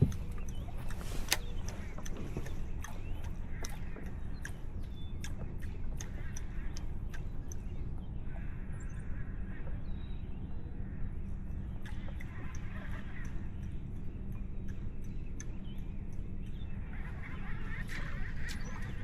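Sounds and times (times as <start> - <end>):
sharp ticks: 0.0 - 9.1, 11.2 - 19.0
wind buffeting microphone: 0.0 - 19.0.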